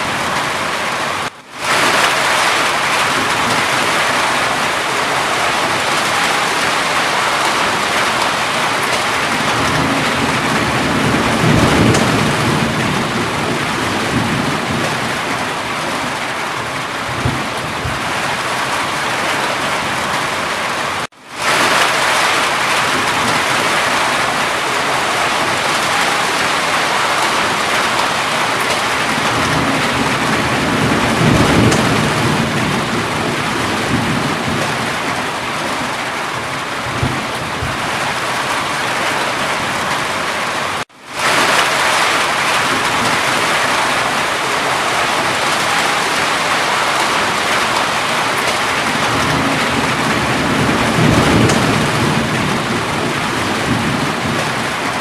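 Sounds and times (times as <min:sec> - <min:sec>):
low rolling thunder: 0:00.0 - 0:40.2, 0:41.2 - 0:55.0
heavy rain hissing: 0:00.0 - 0:55.0.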